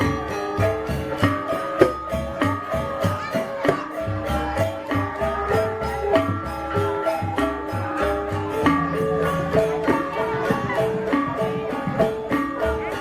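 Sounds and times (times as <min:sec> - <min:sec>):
metallophones ringing melody: 0:00.0 - 0:13.0
steady low drumbeat: 0:00.0 - 0:13.0.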